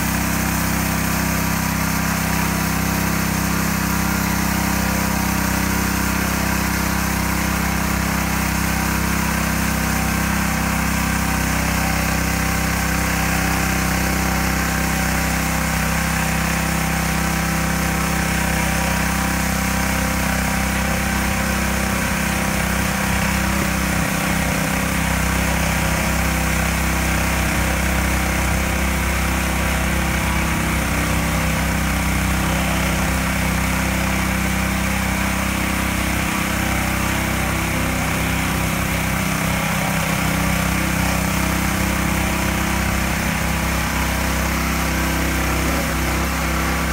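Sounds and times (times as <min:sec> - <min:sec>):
small petrol engine running: 0:00.0 - 0:46.9
wire brush scrubbing asphalt: 0:00.0 - 0:46.9.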